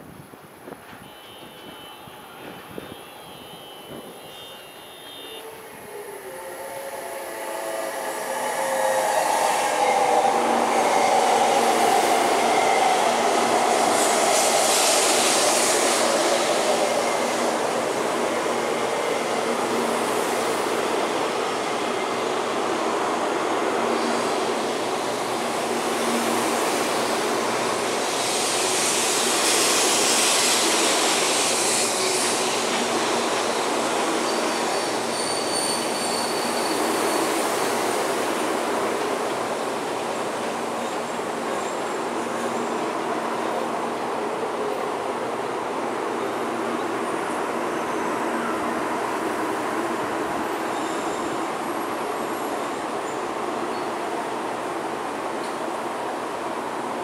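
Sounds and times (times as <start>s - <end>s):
train rushing rolling noise: 5.7s - 57.0s.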